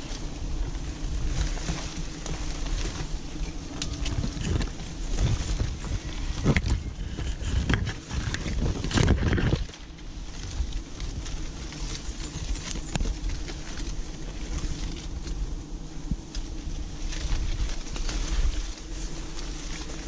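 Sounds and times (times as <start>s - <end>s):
branches rustling and knocking: 0.0s - 20.0s
wind rumble on microphone: 0.0s - 20.0s.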